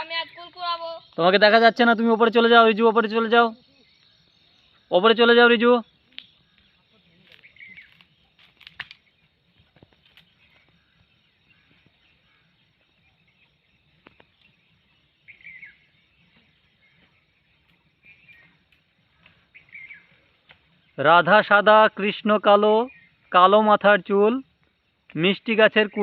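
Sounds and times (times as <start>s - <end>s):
faint high chirps: 0.0s - 21.4s.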